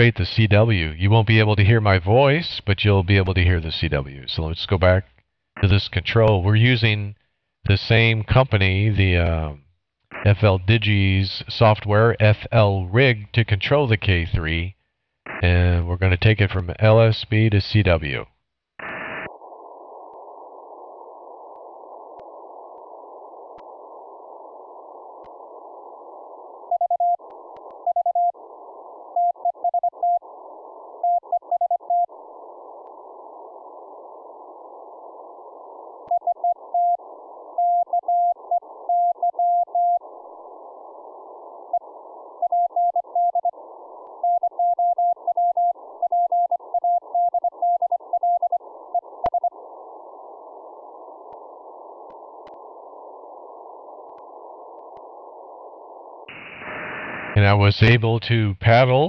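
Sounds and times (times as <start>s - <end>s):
receiver hiss: 0.0s - 59.0s.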